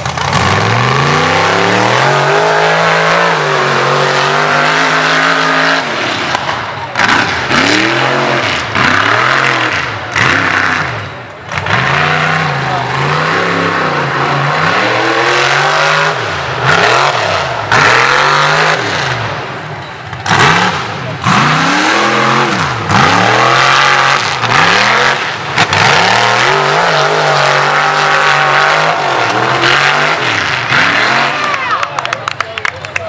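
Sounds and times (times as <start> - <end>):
truck engine revving hard: 0.0 - 32.4.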